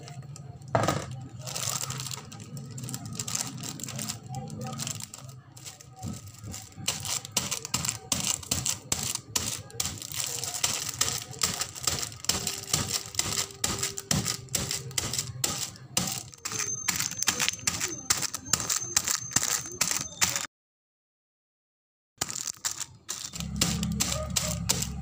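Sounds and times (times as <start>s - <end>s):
plastic bag crinkling: 0.0s - 20.5s, 22.2s - 25.0s.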